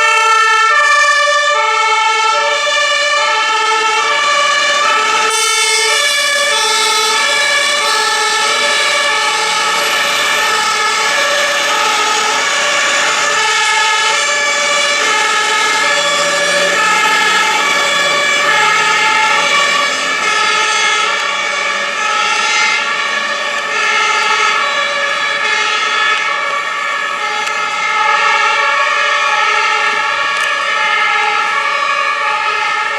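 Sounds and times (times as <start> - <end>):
two-tone fire engine air horns: 0.0 - 32.9.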